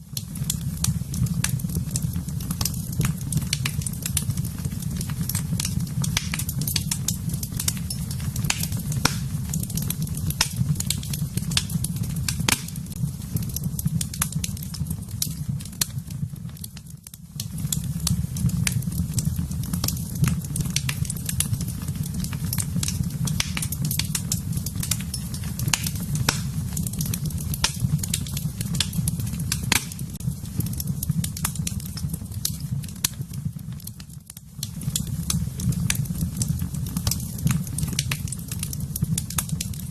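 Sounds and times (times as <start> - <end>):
fire crackling and popping: 0.0 - 39.9
low roar of flames: 0.0 - 39.9.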